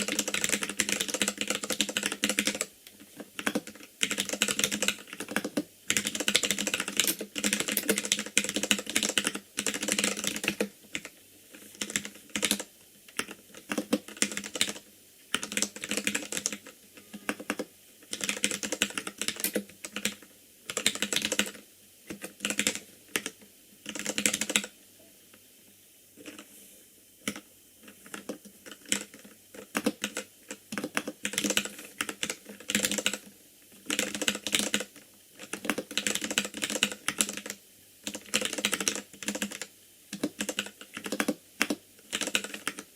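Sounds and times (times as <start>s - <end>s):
typing on mechanical keyboard: 0.0s - 11.1s, 11.7s - 24.7s, 27.2s - 42.9s.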